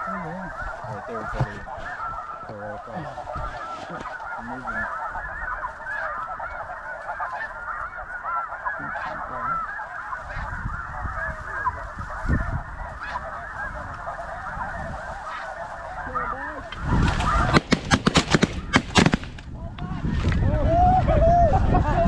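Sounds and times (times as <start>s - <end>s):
geese honking: 0.0s - 19.2s.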